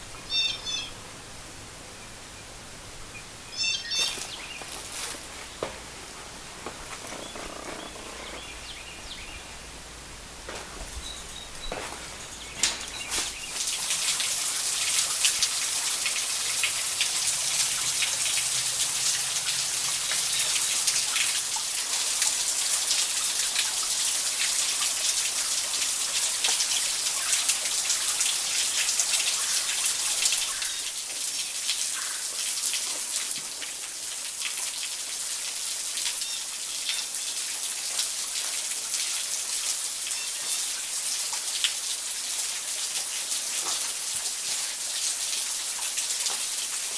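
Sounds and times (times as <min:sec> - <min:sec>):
rain drops pattering: 0:00.0 - 0:46.9.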